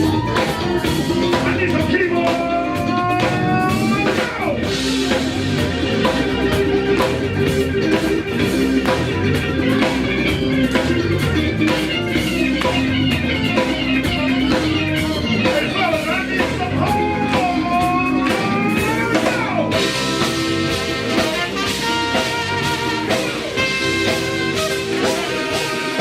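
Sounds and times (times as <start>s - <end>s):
live soul band playing: 0.0s - 26.0s.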